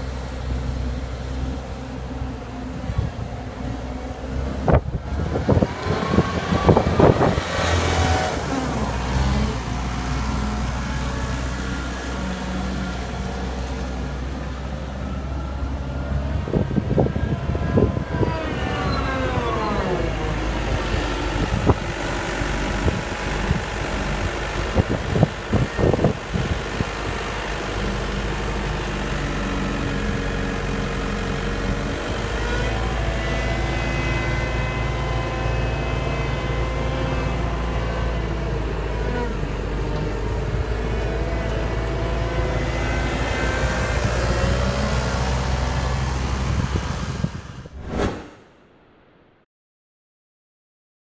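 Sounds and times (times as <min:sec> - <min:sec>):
loader diesel engine revving: 0:00.0 - 0:47.8.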